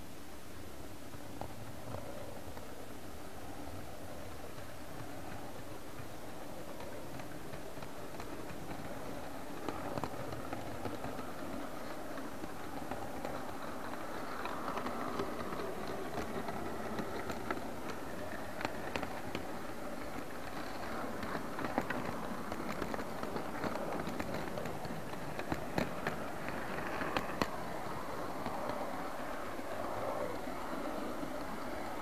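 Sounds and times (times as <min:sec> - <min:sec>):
model train rumbling on track: 0:00.0 - 0:32.0
sharp clicks of track: 0:04.3 - 0:30.4.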